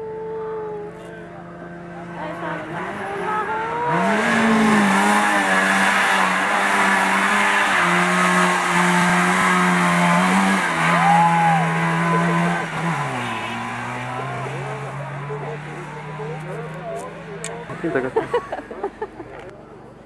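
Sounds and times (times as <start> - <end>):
rally car engine at high revs: 0.0 - 19.4.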